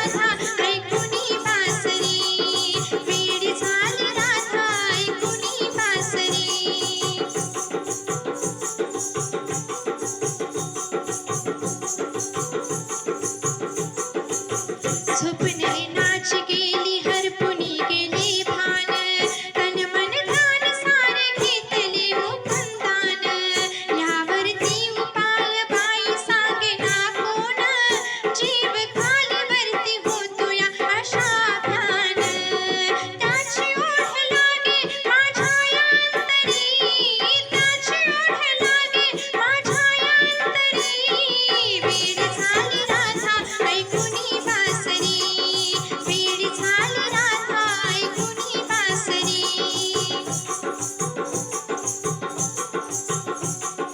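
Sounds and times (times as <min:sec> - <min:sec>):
person singing: 0:00.0 - 0:08.4, 0:15.0 - 0:53.9
hand drum rhythm: 0:00.0 - 0:53.9.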